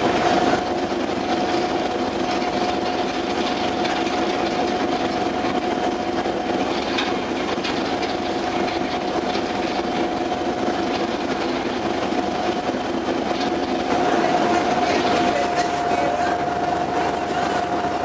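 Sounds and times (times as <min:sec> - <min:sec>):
ferry engine hum with whine: 0:00.0 - 0:18.0
water rushing along hull: 0:00.0 - 0:18.0.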